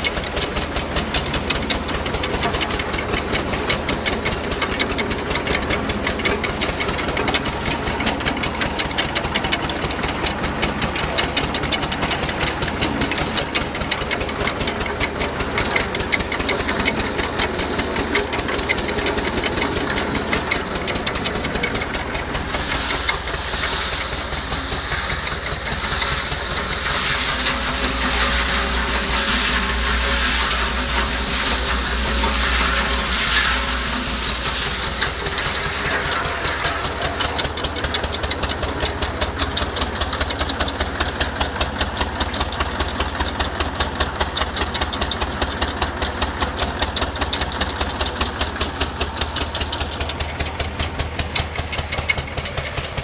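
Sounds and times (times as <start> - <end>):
cement mixer engine chugging: 0.0 - 53.0.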